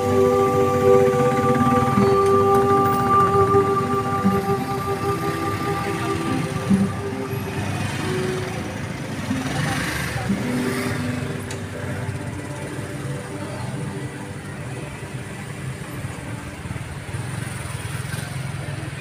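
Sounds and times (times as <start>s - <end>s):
crowd murmuring: 0.0s - 17.2s.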